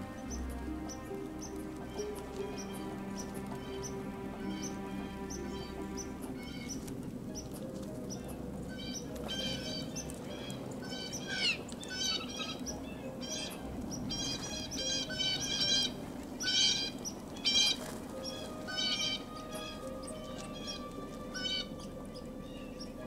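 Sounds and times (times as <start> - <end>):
blue jay harsh calls: 0.1 - 7.5, 8.1 - 22.8.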